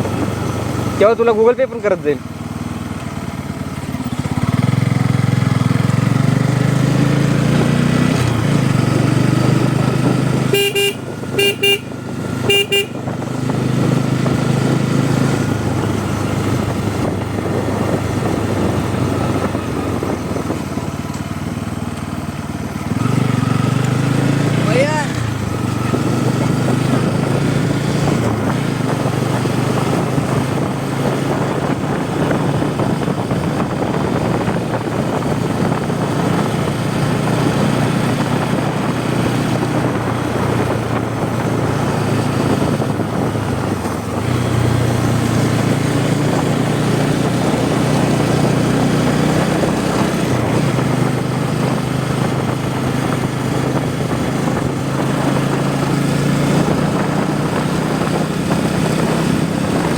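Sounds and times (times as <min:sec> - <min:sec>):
motorcycle engine and exhaust: 0:00.0 - 0:59.9.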